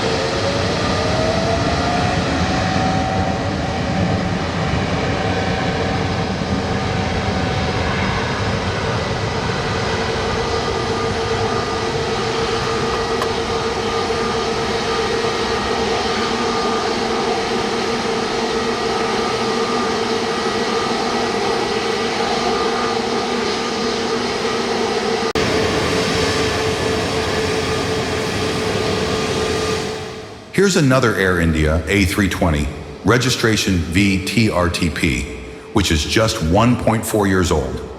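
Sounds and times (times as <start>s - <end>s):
jet engines whining: 0.0s - 37.9s.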